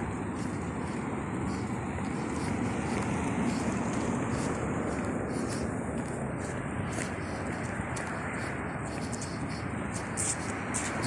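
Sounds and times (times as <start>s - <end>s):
passing vehicle rumble: 0.0s - 11.0s
street noise: 0.0s - 11.0s.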